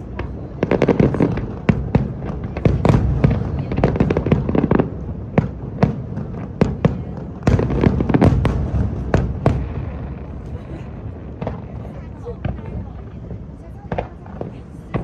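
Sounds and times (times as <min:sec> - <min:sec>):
continuous low rumble: 0:00.0 - 0:15.0
fireworks bangs: 0:00.0 - 0:15.0.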